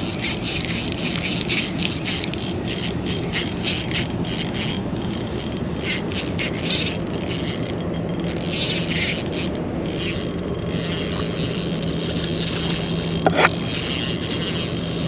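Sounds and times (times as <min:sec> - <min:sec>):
fishing reel clicking: 0:00.0 - 0:15.0.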